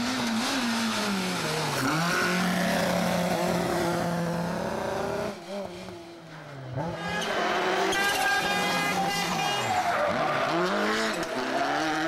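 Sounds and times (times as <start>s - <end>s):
rally car engine revving: 0.0s - 6.1s, 6.7s - 12.0s.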